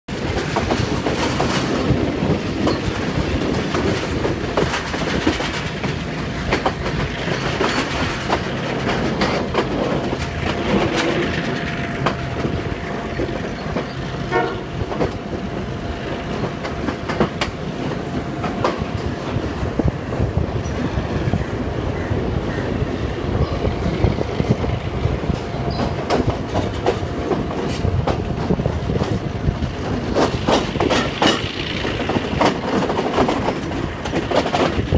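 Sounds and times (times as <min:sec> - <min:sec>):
wheels clattering over rail joints: 0:00.1 - 0:21.0, 0:23.4 - 0:34.9
train running at speed: 0:00.1 - 0:34.9.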